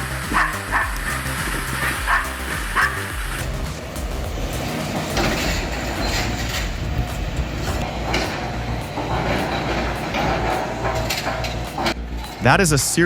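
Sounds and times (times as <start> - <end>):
diesel engine under load: 0.0 - 12.4
metallic knocks and clanks: 0.3 - 12.4.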